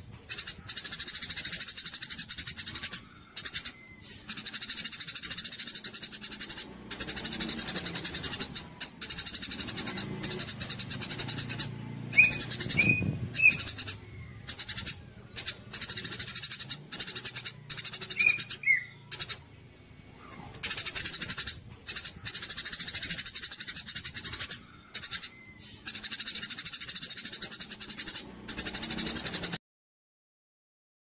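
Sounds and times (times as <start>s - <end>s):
songbird rattling trills: 0.0s - 29.6s
whistled bird notes: 0.0s - 29.6s.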